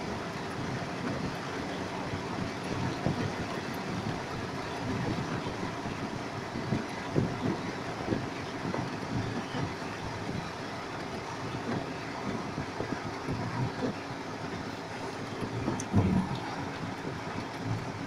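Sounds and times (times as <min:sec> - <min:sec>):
rain and running water: 0:00.0 - 0:18.0.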